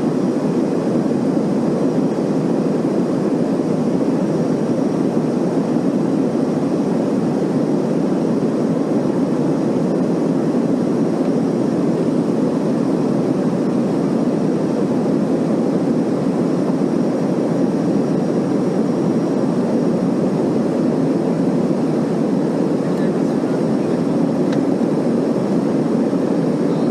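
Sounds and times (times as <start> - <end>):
faint high whine: 0.0 - 26.9
rush of engines and airflow: 0.0 - 26.9.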